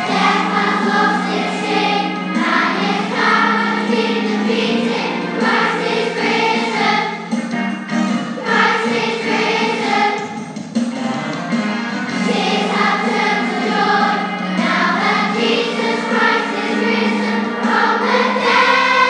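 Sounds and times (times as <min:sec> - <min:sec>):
children singing together: 0:00.0 - 0:07.5, 0:08.3 - 0:10.4, 0:12.1 - 0:19.0.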